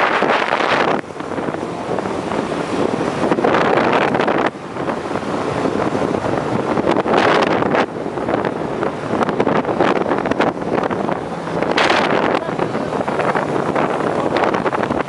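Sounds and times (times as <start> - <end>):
motorcycle engines running: 0.0 - 15.0
wind buffeting microphone: 0.0 - 15.0.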